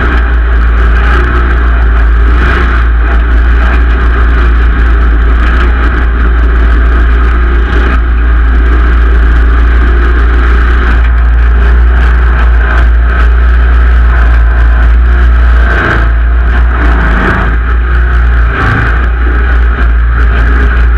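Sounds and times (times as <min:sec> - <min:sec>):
garden tractor engine running: 0:00.0 - 0:20.9.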